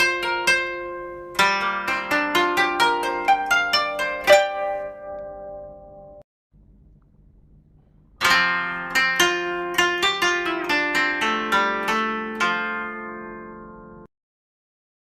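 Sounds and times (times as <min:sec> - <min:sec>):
plucked string instrument music: 0:00.0 - 0:06.2, 0:08.2 - 0:14.1.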